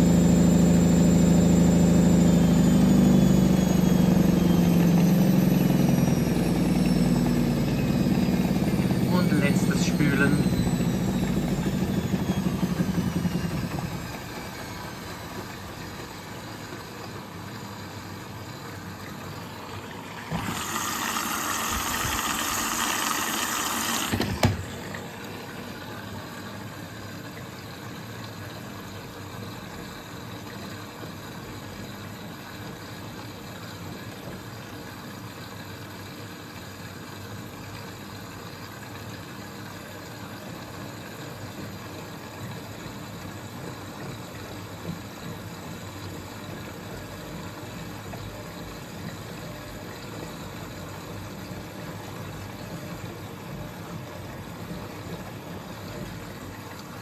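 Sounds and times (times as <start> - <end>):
washing machine drum humming: 0.0 - 57.0.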